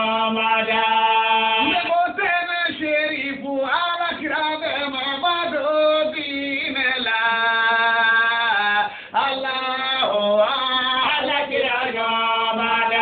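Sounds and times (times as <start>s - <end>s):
man chanting unaccompanied: 0.0s - 13.0s.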